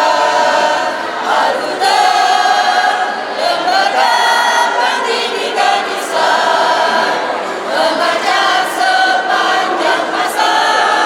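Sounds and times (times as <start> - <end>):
group of voices singing: 0.0 - 11.0.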